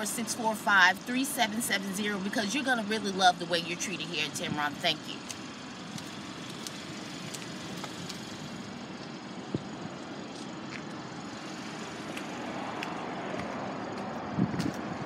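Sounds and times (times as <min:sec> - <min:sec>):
vehicle-like hum: 0:00.0 - 0:15.0.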